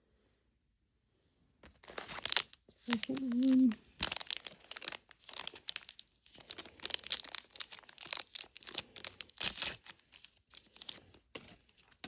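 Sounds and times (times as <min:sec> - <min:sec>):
wrappers tearing and crinkling: 0:01.6 - 0:12.0.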